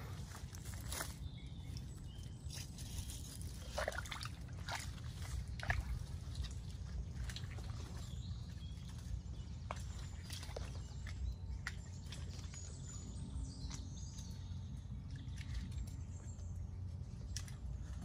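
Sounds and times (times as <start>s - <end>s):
mud squelching: 0.0s - 18.0s
steady low rumble: 0.0s - 18.0s.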